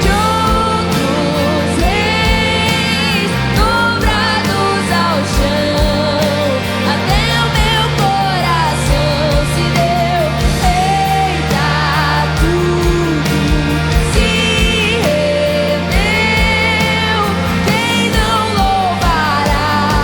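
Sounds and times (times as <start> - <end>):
worship song by full band: 0.0 - 20.0.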